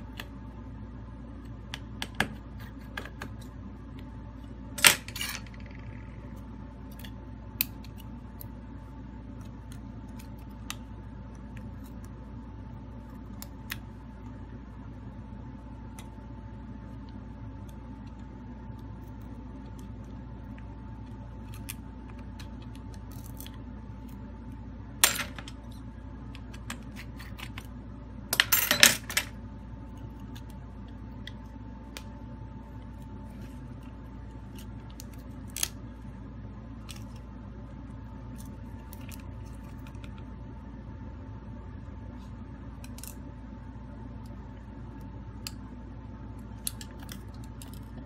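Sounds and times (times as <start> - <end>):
background hum: 0.0 - 48.0.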